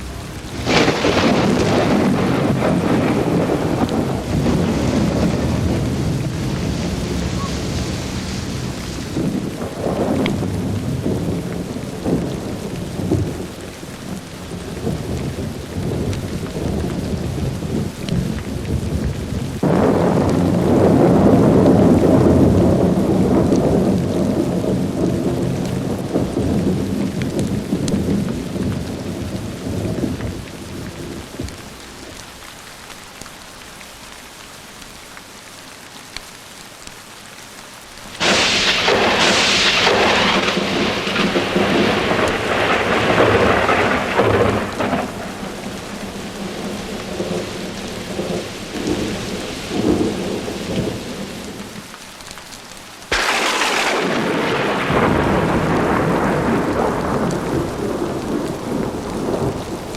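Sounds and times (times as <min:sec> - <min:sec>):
sharp thunderclap: 0:00.0 - 0:13.6, 0:14.5 - 0:30.5, 0:38.2 - 0:51.6, 0:53.1 - 0:59.8
low rumble of thunder: 0:00.0 - 0:32.3, 0:38.2 - 0:51.8, 0:53.1 - 0:59.9
steady rain: 0:00.0 - 0:59.9.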